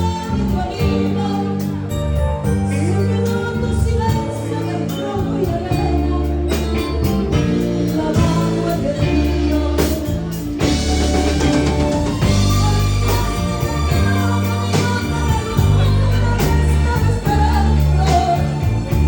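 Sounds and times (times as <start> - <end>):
live band with guitar: 0.0 - 19.0
person singing: 0.0 - 19.0.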